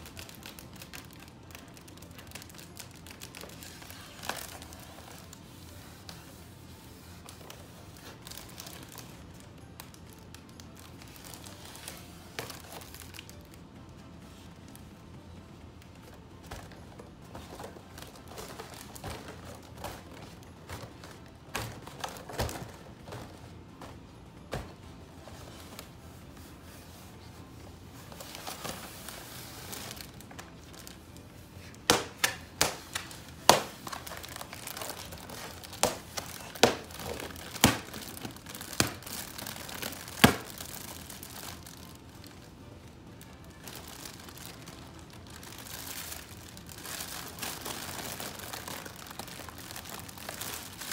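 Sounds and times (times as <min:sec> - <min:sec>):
foil balloon crinkling: 0:00.0 - 0:15.0, 0:15.6 - 0:50.9.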